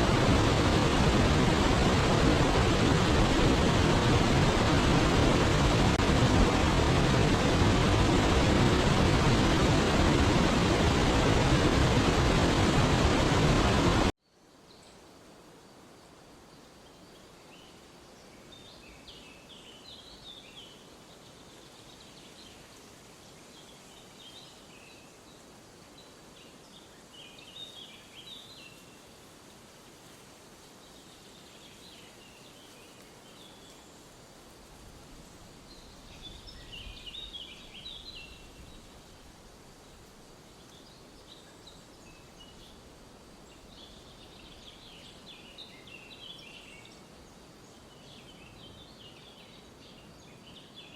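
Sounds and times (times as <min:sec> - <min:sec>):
forest ambience hiss: 0:00.0 - 0:50.9.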